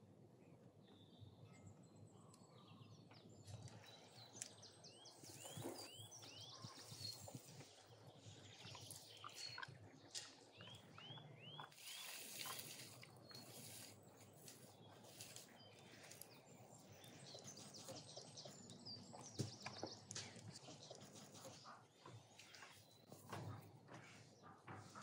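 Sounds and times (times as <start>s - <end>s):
birds chirping: 0.7s - 25.0s.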